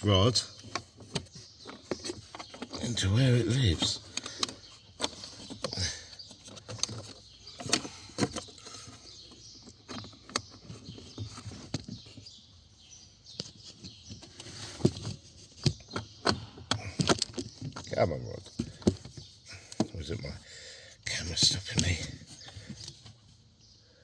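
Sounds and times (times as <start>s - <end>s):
plastic glove box clicking and squeaking: 0.0s - 20.4s, 21.1s - 23.2s.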